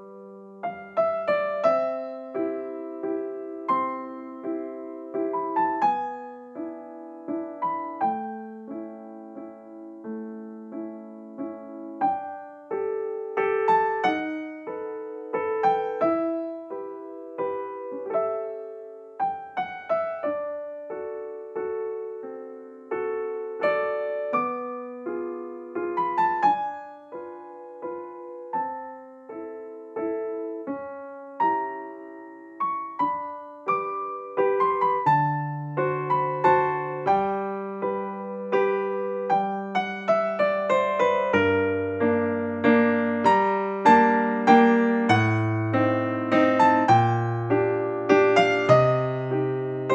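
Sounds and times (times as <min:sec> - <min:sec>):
gentle piano piece: 0:00.0 - 0:49.9.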